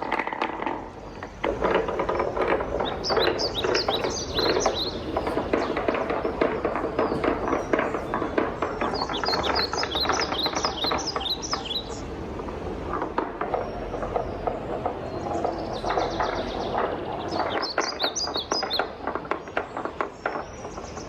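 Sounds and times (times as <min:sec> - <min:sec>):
wooden balls rolling on track: 0:00.0 - 0:21.0
bird chirping: 0:00.8 - 0:12.1, 0:13.5 - 0:21.0.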